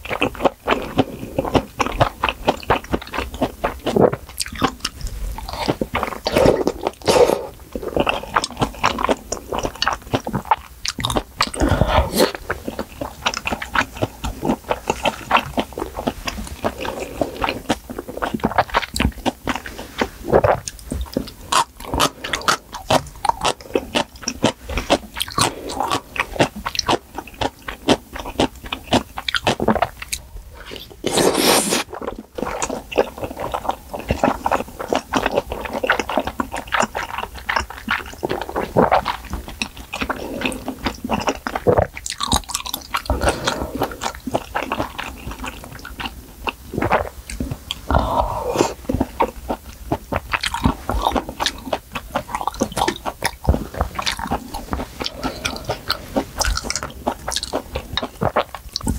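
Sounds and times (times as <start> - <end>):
close chewing with mouth clicks: 0.0 - 58.9.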